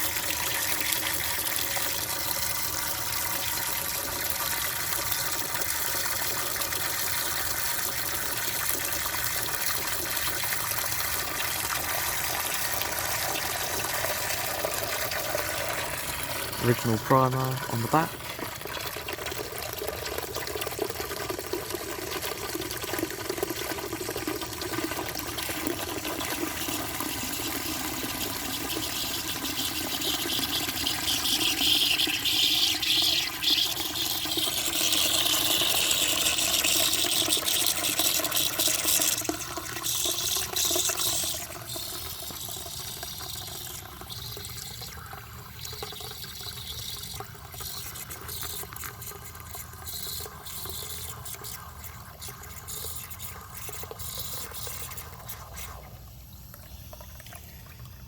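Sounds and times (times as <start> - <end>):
water rushing in toilet cistern: 0.0 - 58.0.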